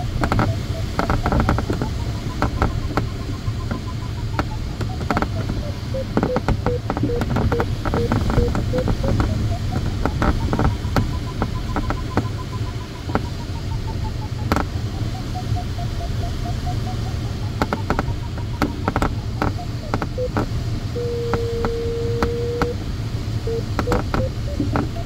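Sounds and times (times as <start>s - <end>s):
sharp clicks: 0.0s - 22.9s, 23.5s - 25.0s
rush of airflow in cockpit: 0.0s - 25.0s
variometer beeping: 0.0s - 25.0s.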